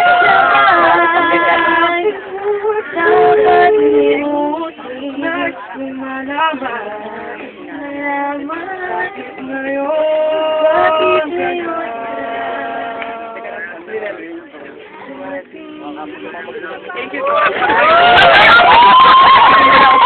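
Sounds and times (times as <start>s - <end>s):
person singing slow love song: 0.0s - 16.4s.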